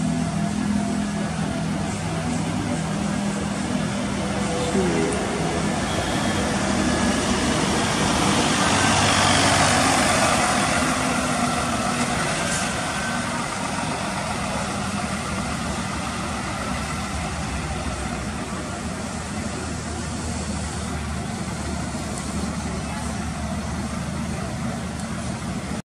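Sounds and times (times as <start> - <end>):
bus diesel engine driving past: 0.0 - 25.8.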